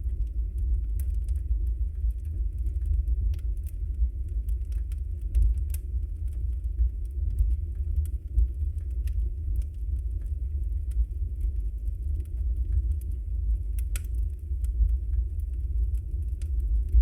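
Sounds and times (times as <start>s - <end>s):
deep steady rumble: 0.0s - 17.0s
fire crackling and popping: 0.0s - 17.0s.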